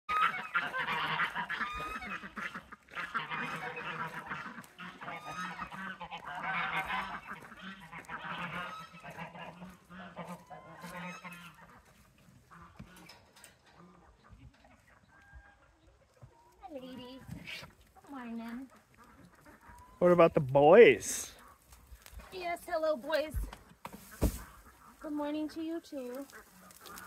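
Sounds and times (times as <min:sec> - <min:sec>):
geese honking: 0:00.1 - 0:27.0.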